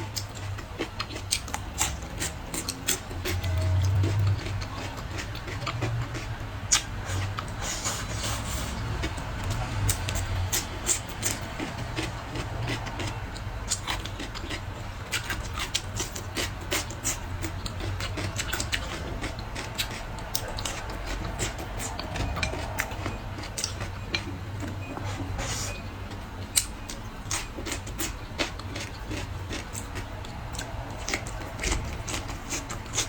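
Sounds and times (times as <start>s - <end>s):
wet chewing and mouth smacking: 0.1s - 7.6s, 8.2s - 33.0s.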